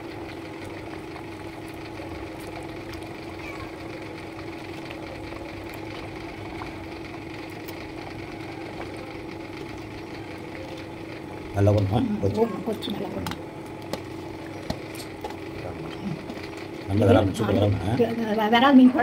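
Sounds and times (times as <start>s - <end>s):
curry boiling in a pot: 0.0s - 18.0s.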